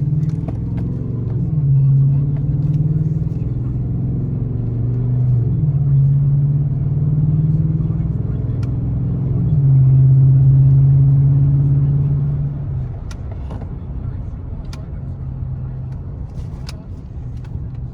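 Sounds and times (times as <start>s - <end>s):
truck engine droning: 0.0s - 17.9s.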